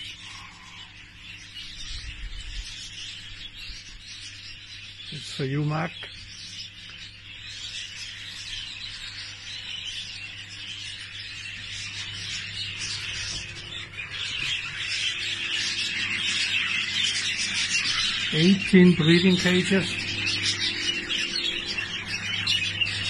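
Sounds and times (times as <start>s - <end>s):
budgerigars chattering and chirping: 0.0s - 23.0s
steady low hum: 0.0s - 23.0s.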